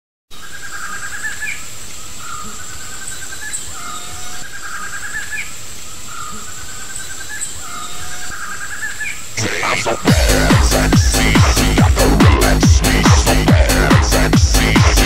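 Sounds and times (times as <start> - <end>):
birds chirping: 0.4 - 15.0
high insect whine: 1.1 - 15.0.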